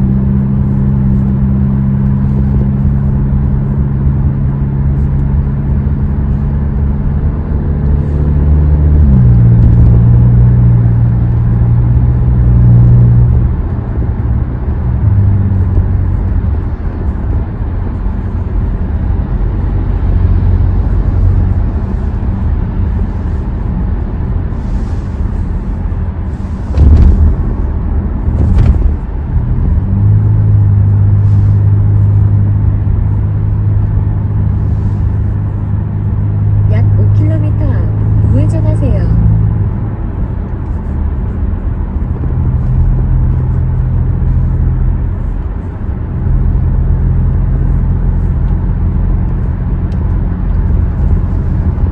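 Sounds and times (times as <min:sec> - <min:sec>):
car engine and exhaust droning: 0:00.0 - 0:51.9
road noise: 0:00.0 - 0:51.9.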